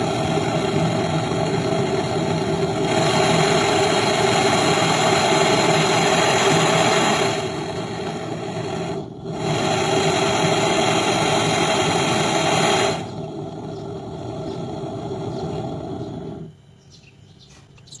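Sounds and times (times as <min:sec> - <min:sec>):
gas torch flame hissing: 0:00.0 - 0:16.6.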